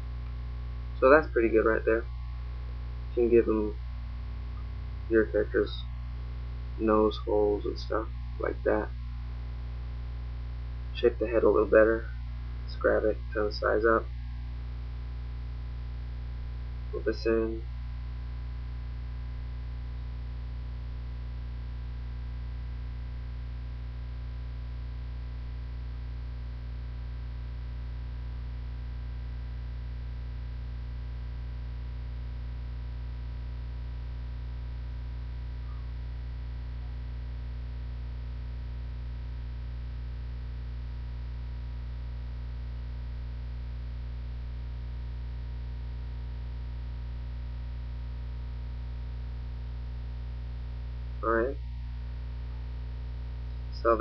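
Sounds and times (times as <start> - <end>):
low mains hum: 0.0 - 54.0.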